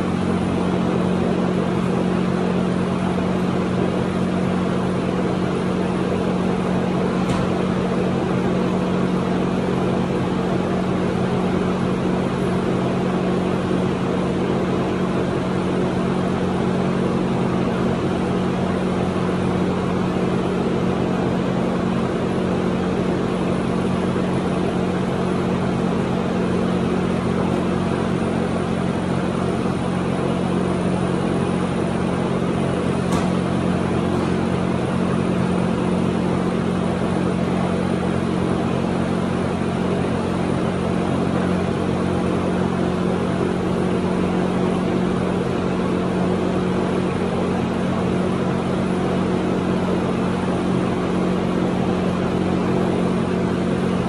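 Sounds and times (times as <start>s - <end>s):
motor hum: 0.0s - 54.0s.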